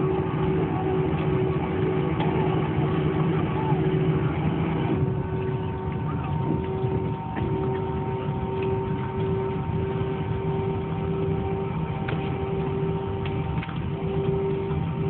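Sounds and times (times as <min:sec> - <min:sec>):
jet airliner cabin drone: 0:00.0 - 0:15.0.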